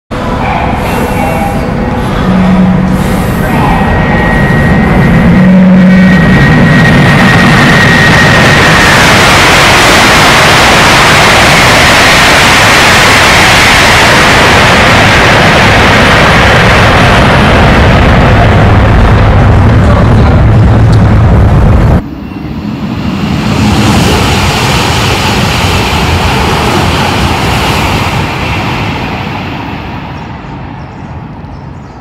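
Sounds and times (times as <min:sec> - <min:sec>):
high whine of train: 0:00.1 - 0:32.0
high-speed train rushing past: 0:00.1 - 0:32.0.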